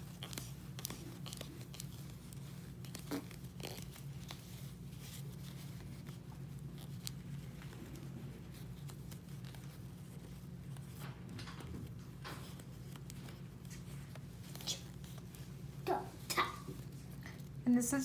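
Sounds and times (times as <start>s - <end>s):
faint rustling of hands: 0.0s - 18.0s
steady low hum: 0.0s - 18.0s.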